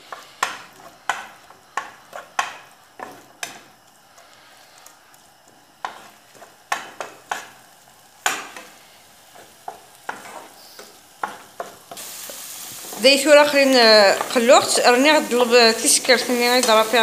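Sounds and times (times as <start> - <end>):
onion and tomato sizzling in oil: 0.0 - 17.0.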